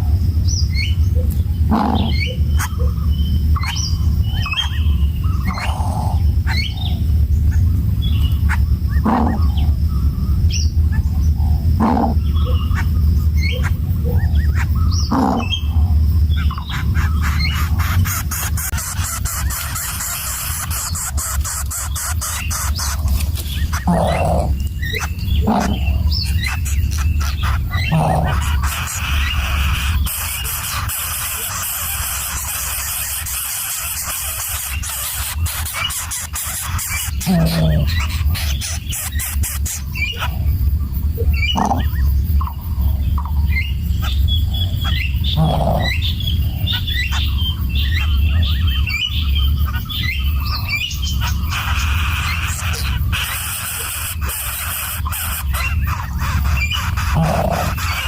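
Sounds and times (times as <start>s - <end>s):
bird chirps: 0.0s - 58.0s
harsh bird nestling calls: 0.0s - 58.0s
steady low rumble: 0.0s - 58.0s.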